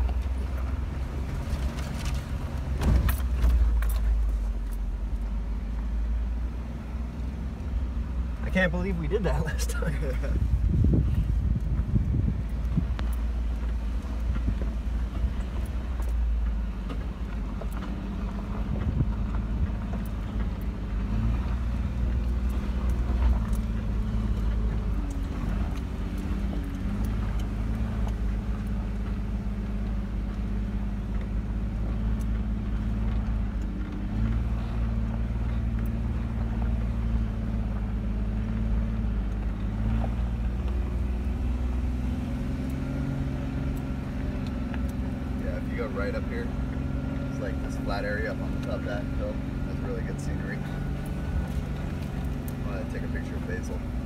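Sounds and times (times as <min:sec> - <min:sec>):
car engine climbing a hill: 0:00.0 - 0:54.0.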